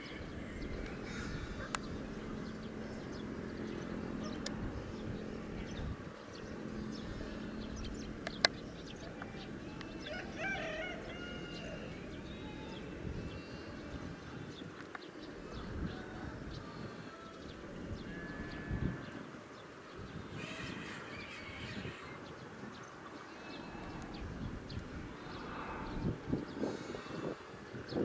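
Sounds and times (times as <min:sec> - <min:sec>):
birds chirping: 0:00.0 - 0:28.0
low background noise: 0:00.0 - 0:28.0.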